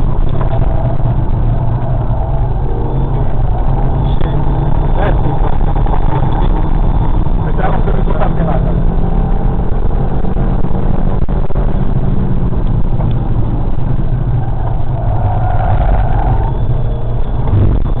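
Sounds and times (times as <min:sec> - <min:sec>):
car engine running hard: 0:00.0 - 0:18.0
wind rumble: 0:00.0 - 0:18.0.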